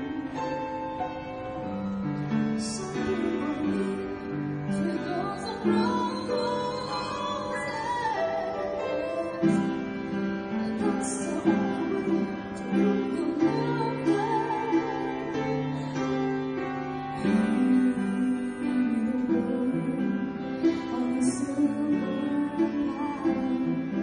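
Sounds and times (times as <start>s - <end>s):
person singing: 0.0s - 16.3s, 17.0s - 24.0s
plucked strings: 0.0s - 24.0s.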